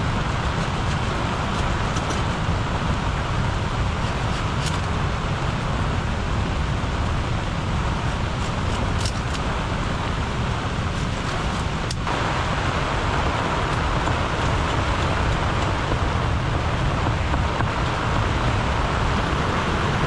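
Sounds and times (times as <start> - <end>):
deep rumble: 0.0 - 20.0
strong wind gusting: 0.0 - 20.0.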